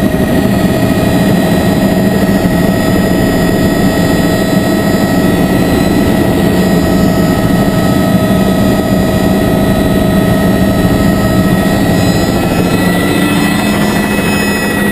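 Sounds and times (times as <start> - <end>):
helicopter rotor beat: 0.0 - 14.9
turbine hum and whine: 0.0 - 14.9.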